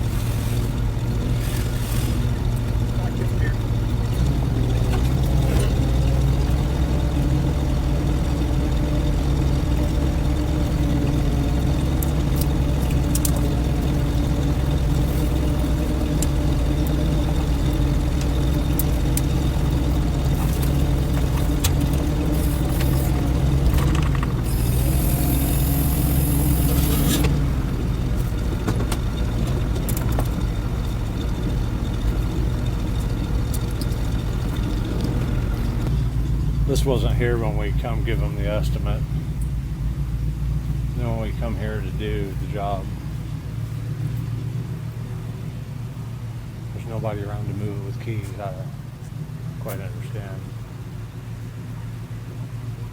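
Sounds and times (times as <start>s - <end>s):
vehicle engine rumbling: 0.0s - 52.9s.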